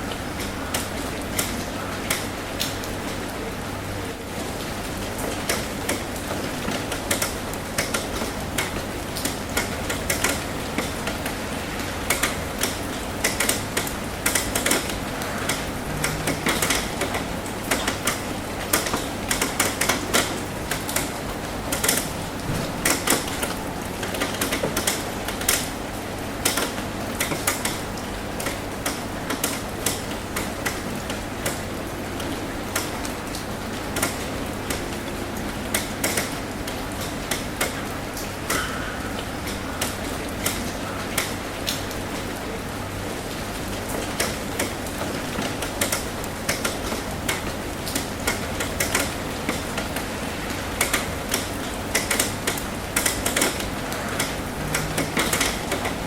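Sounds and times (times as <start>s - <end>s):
raindrops tapping on metal roof: 0.0s - 56.0s
steady hiss of rain: 0.0s - 56.0s.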